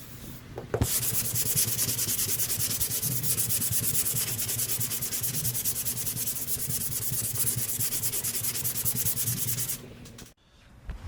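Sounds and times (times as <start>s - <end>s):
sandpaper rasping strokes: 0.9s - 9.8s.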